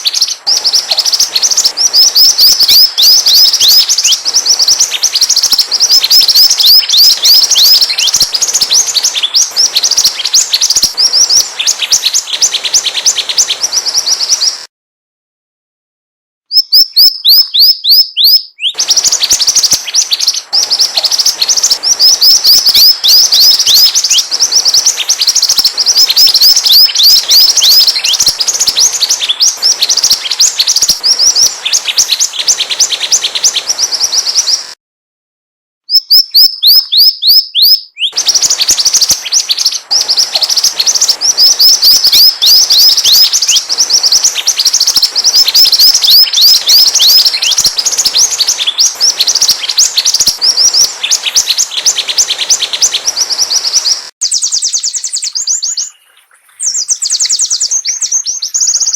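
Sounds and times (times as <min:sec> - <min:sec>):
bird song with high chirps: 0:00.0 - 0:14.7, 0:16.5 - 0:34.8, 0:35.9 - 0:58.9.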